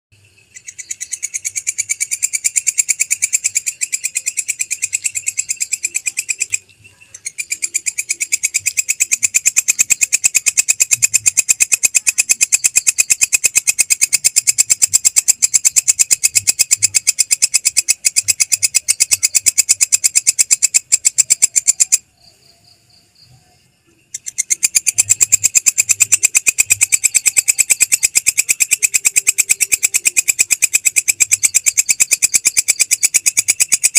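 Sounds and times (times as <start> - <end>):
katydid high-pitched ticking: 0.3 - 33.9.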